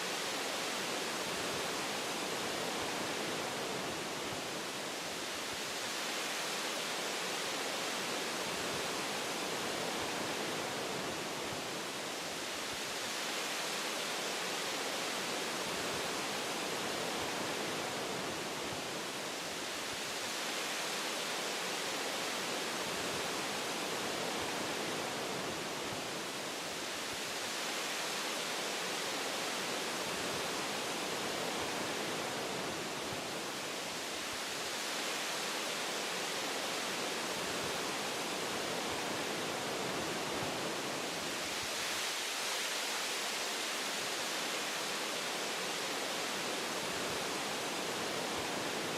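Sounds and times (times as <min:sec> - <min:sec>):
wind through tree branches: 0:00.0 - 0:48.9.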